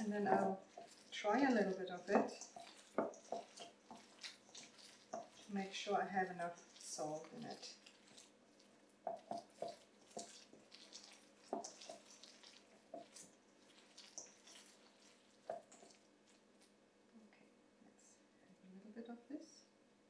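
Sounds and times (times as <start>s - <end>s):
hand squeezing wet dough: 0.0s - 16.8s.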